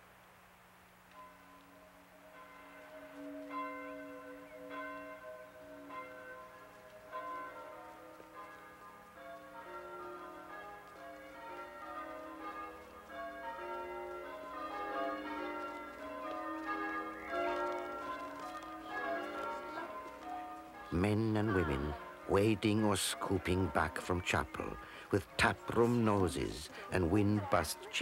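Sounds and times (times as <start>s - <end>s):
church bells ringing: 1.1s - 28.0s.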